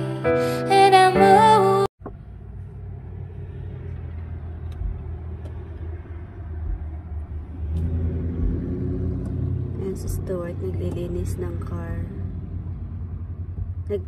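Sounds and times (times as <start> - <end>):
car rumble from inside: 1.6 - 14.0.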